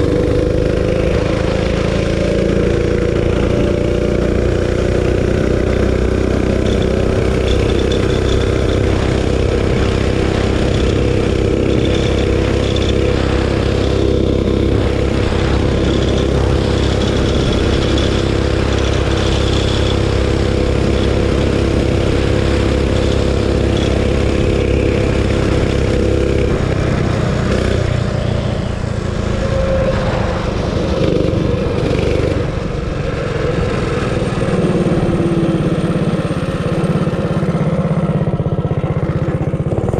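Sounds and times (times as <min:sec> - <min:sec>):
mini bike engine running high: 0:00.0 - 0:39.9
wind noise: 0:00.0 - 0:39.9.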